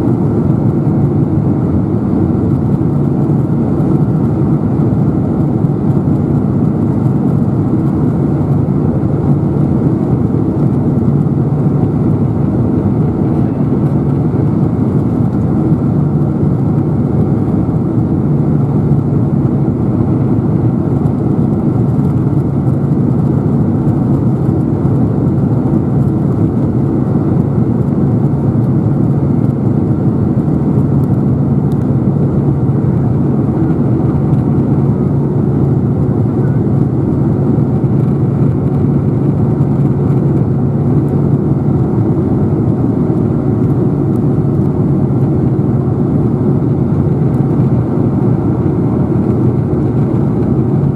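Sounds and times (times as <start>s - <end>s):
jet engines droning: 0.0s - 50.9s
low steady hum: 0.0s - 50.9s.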